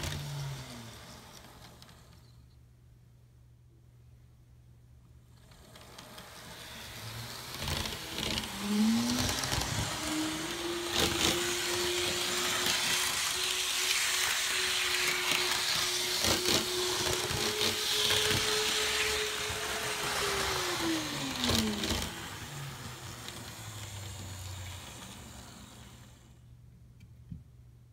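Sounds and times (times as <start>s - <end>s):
model train motor whine: 0.0s - 2.5s, 5.3s - 26.4s.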